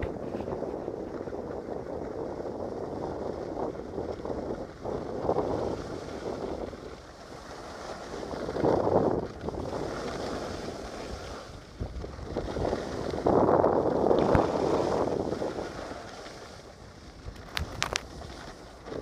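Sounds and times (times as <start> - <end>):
skis scraping over packed snow: 0.0 - 19.0
wind on microphone: 0.0 - 19.0.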